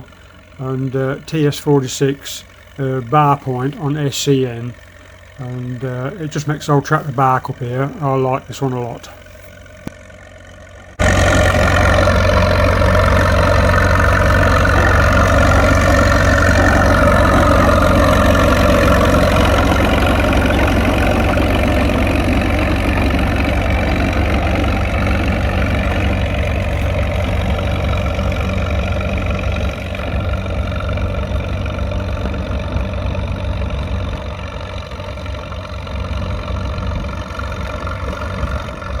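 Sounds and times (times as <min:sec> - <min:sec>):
diesel tractor engine under load: 0:00.0 - 0:39.0.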